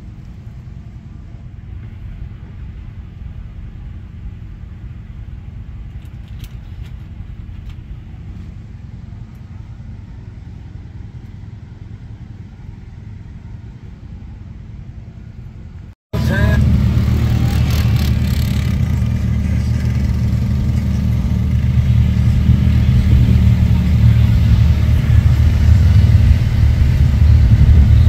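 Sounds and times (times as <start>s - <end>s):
low engine rumble: 0.0s - 28.0s.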